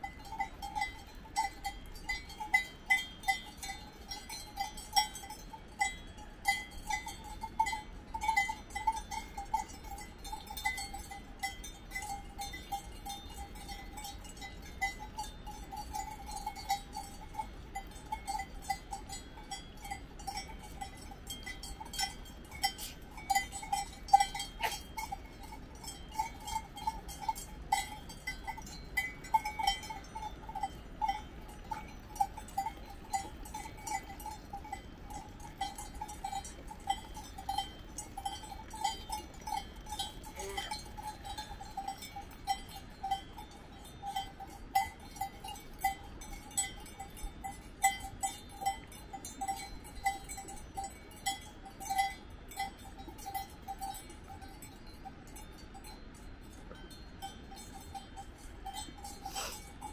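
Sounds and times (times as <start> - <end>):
cow bells clanking: 0.0 - 59.9.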